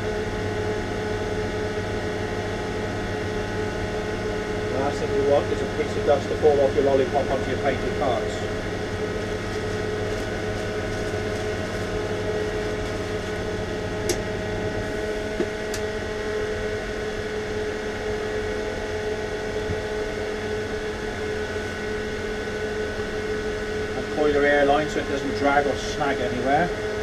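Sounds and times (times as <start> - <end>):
extraction fan humming: 0.0 - 27.0.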